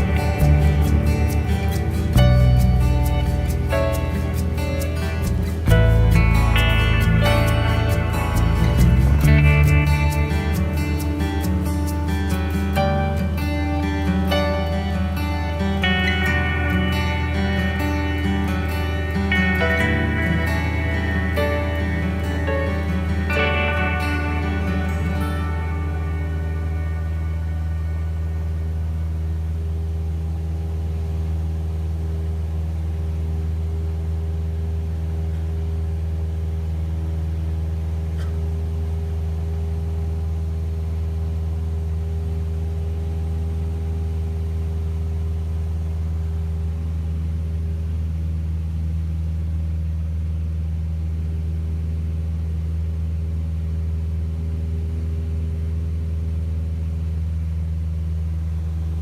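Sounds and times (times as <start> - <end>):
airplane engine drone: 0.0 - 59.0.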